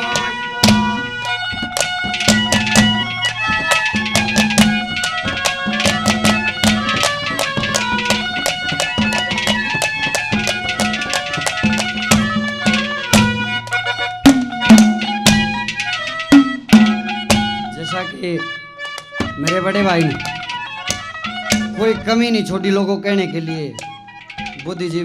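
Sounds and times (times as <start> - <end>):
hand-drum strokes: 0.0 - 25.0
held melody line: 0.0 - 25.0.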